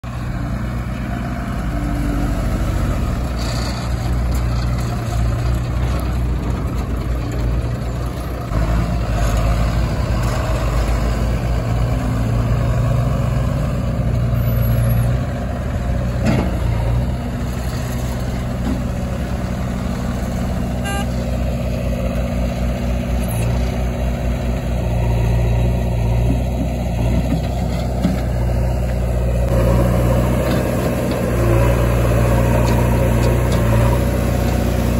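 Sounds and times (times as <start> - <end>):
diesel engines running: 0.0 - 34.9.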